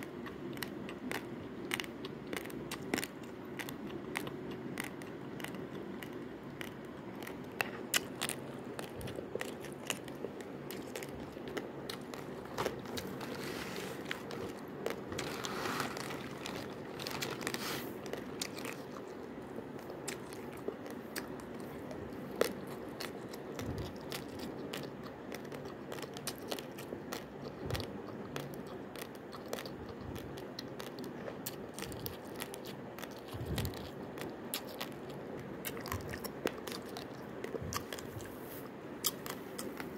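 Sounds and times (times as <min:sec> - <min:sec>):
low background hum: 0:00.0 - 0:39.9
rice grains crunched and chewed: 0:00.0 - 0:39.9.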